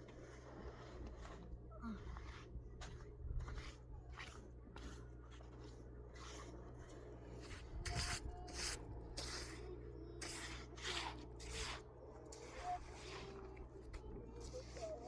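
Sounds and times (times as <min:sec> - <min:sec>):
scraping on rough surface: 0:00.0 - 0:15.0
steady low hum: 0:00.0 - 0:15.0.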